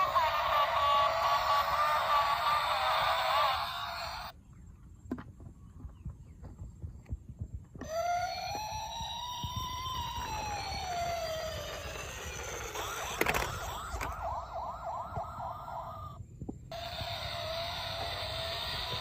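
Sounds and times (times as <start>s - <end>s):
toy police siren wailing and yelping: 0.0s - 4.3s, 7.8s - 19.0s.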